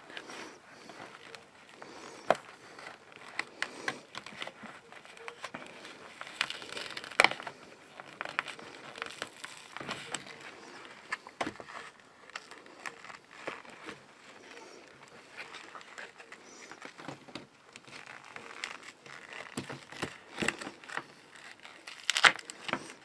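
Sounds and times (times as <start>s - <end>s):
filter rustling and crinkling: 0.0s - 23.0s.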